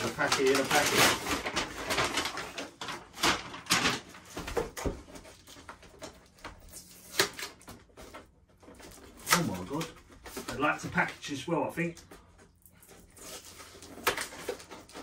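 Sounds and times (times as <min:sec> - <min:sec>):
paper packaging crinkling: 0:00.0 - 0:15.0.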